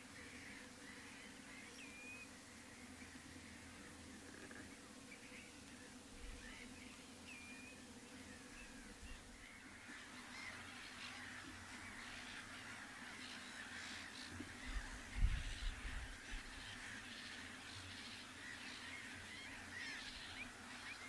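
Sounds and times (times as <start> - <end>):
distant flock of birds calling: 0.0 - 21.0.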